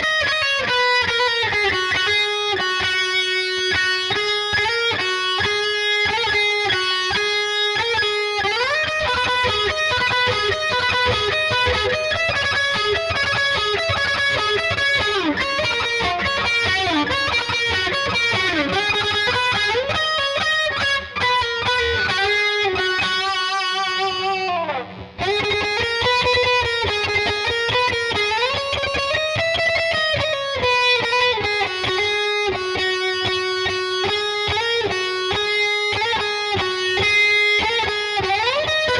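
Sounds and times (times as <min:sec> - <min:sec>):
electric guitar lead: 0:00.0 - 0:38.9.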